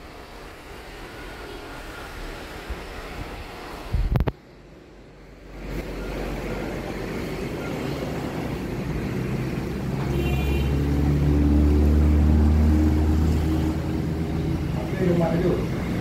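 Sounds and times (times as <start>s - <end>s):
low mechanical hum: 0.0s - 16.0s
rushing background noise: 0.0s - 16.0s.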